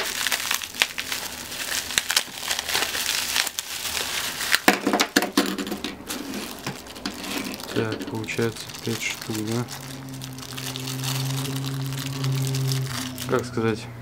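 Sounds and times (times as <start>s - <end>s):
plastic crinkling: 0.0s - 13.6s.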